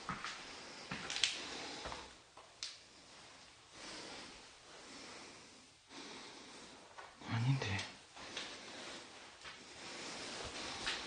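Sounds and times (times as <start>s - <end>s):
person breathing heavily: 0.4s - 2.2s, 2.9s - 7.2s, 8.0s - 11.0s.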